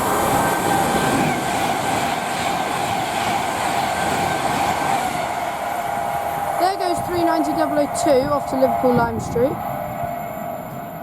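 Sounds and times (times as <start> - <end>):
electric train rushing on rails: 0.0 - 11.0
train whining tone: 0.0 - 11.0.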